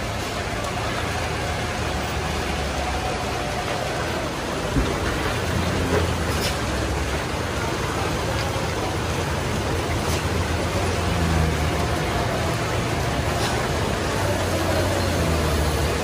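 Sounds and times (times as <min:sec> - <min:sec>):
heavy rain on wet road: 0:00.0 - 0:16.0
vehicle engines droning: 0:00.0 - 0:16.0.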